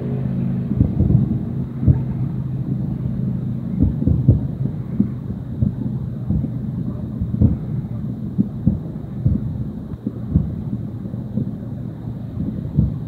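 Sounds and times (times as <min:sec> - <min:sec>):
distant fireworks booming: 0:00.0 - 0:13.0
steady low hum: 0:00.0 - 0:13.0.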